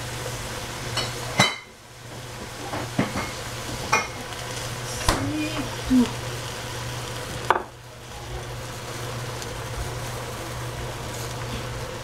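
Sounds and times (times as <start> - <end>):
vegetables sizzling in pan: 0.0 - 12.0.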